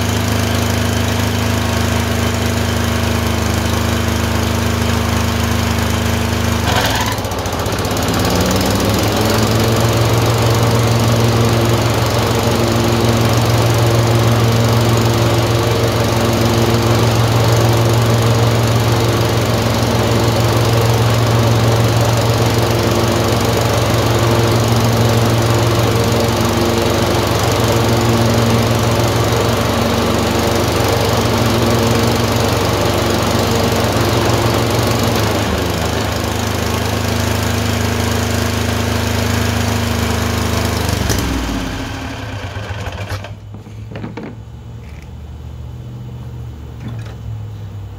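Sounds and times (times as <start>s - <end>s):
engine running unevenly: 0.0s - 47.9s.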